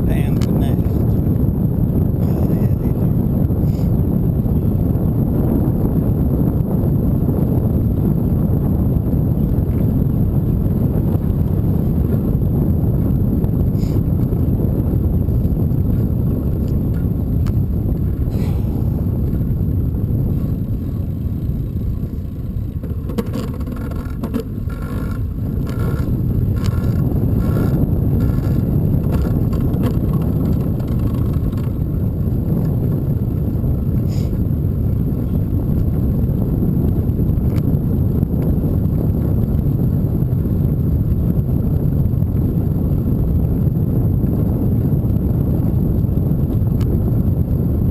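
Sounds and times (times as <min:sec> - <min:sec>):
bicycle road noise: 0:00.0 - 0:47.9
wind rumble on microphone: 0:00.0 - 0:47.9.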